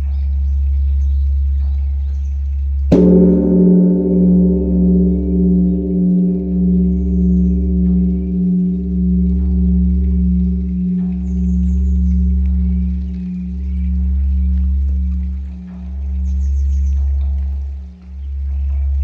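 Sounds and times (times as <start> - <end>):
large bronze bell ringing: 2.9 - 19.0.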